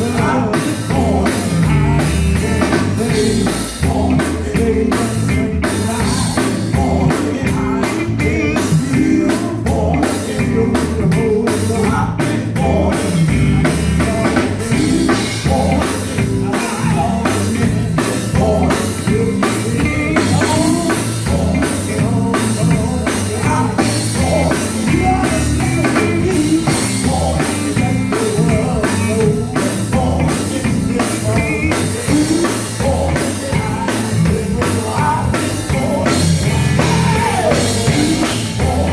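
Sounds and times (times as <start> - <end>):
drum kit beat: 0.0 - 38.9
gospel band music: 0.0 - 38.9
guitar: 0.0 - 38.9.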